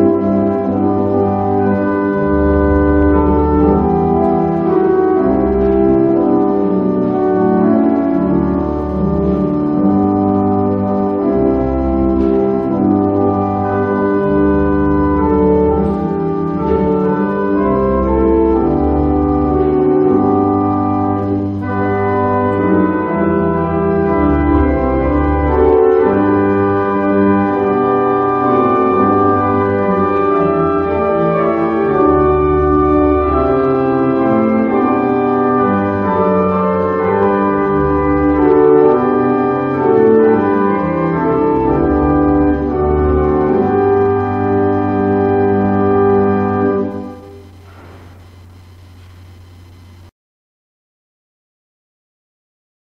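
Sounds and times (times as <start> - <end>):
organ music: 0.0 - 50.1.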